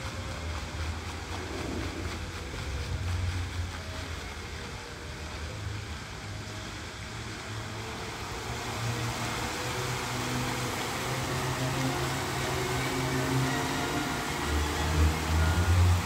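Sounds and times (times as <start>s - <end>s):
fountain jets rushing and splashing: 0.0s - 16.0s.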